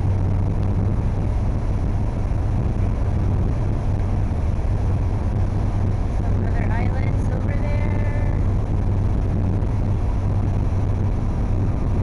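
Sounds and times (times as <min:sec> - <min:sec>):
boat engine humming: 0:00.0 - 0:12.0
rushing noise: 0:00.0 - 0:12.0.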